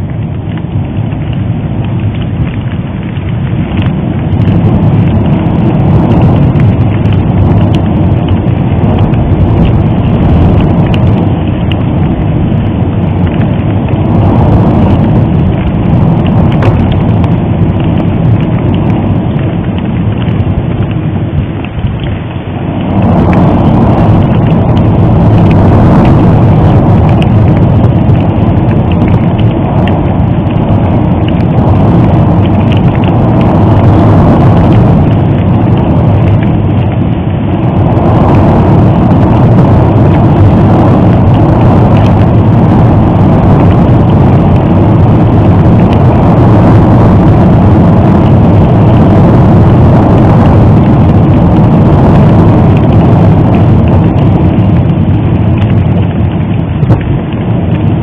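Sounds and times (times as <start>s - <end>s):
volcanic eruption rumble: 0.0s - 58.0s.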